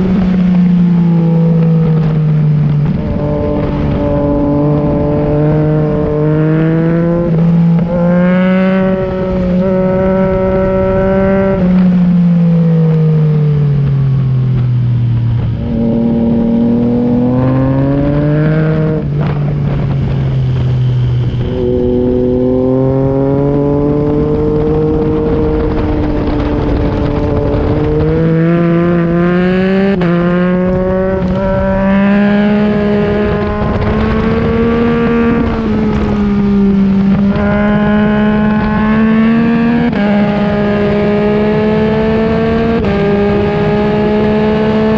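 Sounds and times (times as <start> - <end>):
motorcycle engine revving: 0.0 - 44.9
wind noise: 0.0 - 44.9.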